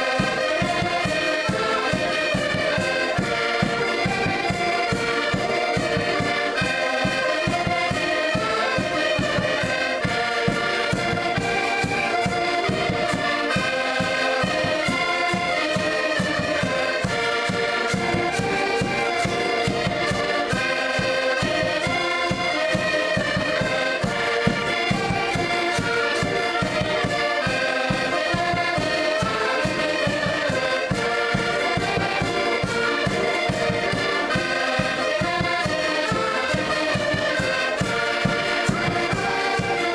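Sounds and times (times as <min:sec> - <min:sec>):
button accordions playing: 0:00.0 - 0:39.9.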